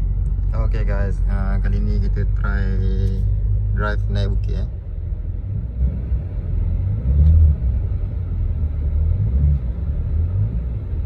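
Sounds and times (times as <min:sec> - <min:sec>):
car engine rumbling under throttle: 0:00.0 - 0:11.0
road noise: 0:00.0 - 0:11.0.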